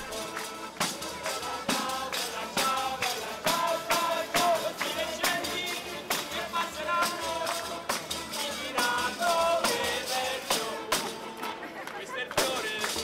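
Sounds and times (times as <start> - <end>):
sharp percussion beat: 0.0 - 11.6, 12.3 - 13.0
accordion playing lively tune: 0.0 - 13.0.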